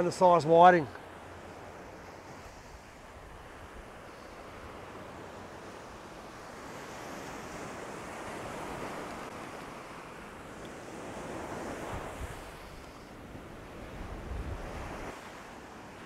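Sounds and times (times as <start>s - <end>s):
ocean surf breaking on sand: 0.0s - 16.0s.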